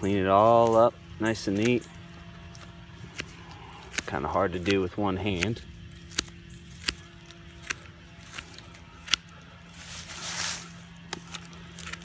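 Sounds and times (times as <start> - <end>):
dry grass rustling: 0.0 - 12.0
hand clippers snipping: 0.3 - 9.8, 11.0 - 12.0.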